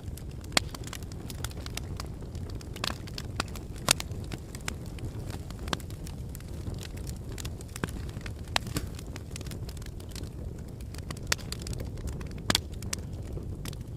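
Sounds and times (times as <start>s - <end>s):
low steady fire rumble: 0.0s - 13.9s
wood fire crackling and popping: 0.0s - 13.9s.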